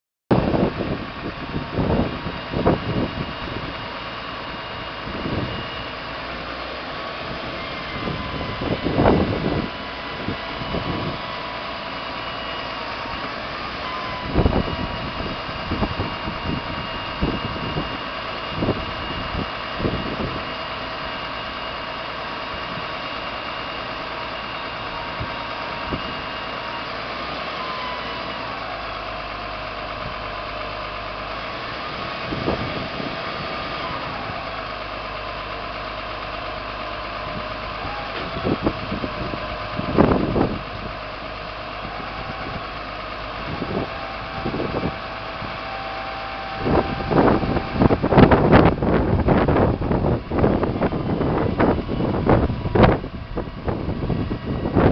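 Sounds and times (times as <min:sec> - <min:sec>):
truck engine running: 0:00.3 - 0:54.9.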